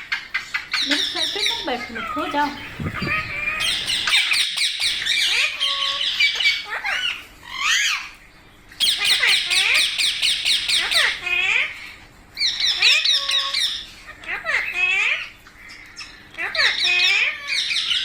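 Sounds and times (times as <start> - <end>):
parakeets squawking and chattering: 0.2 - 18.0.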